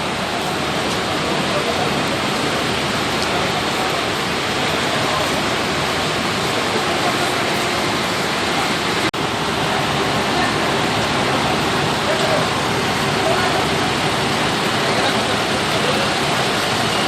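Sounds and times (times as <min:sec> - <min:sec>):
fire hose spraying water: 0:00.0 - 0:17.0.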